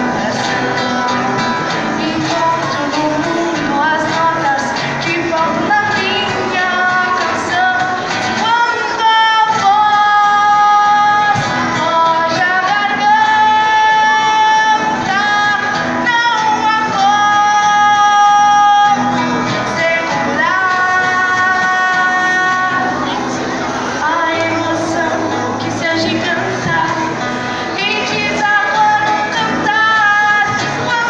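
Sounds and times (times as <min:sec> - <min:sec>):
acoustic guitar: 0:00.0 - 0:31.0
woman singing into a microphone: 0:00.0 - 0:31.0.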